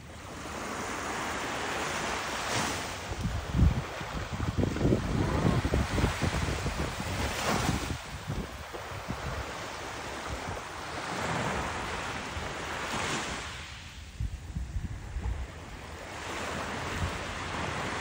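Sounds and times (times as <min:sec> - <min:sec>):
waves breaking on shore: 0:00.0 - 0:18.0
wind rumble on microphone: 0:00.0 - 0:18.0.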